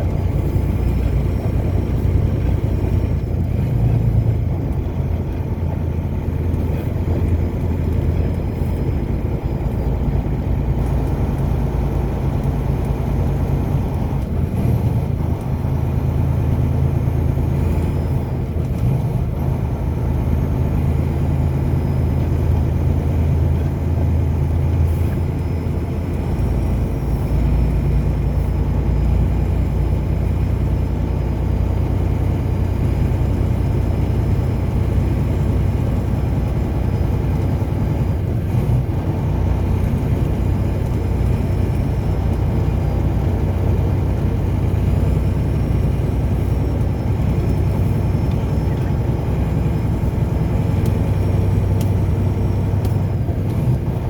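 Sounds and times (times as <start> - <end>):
car engine rumble and road noise: 0.0 - 54.0.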